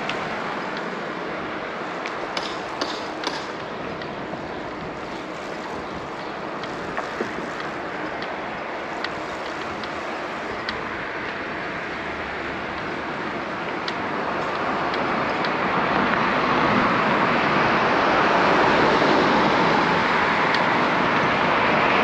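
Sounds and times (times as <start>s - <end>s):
bicycle wind and tyre noise: 0.0s - 22.0s.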